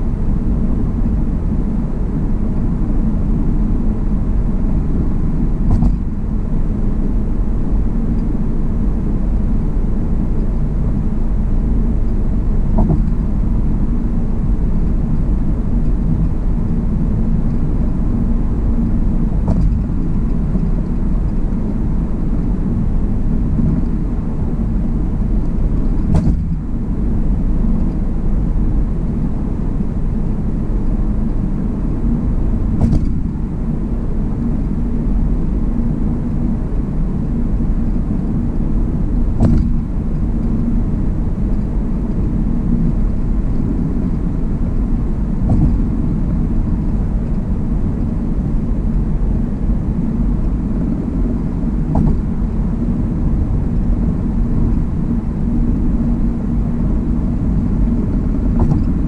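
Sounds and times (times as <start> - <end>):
tyre and engine rumble: 0.0 - 59.0.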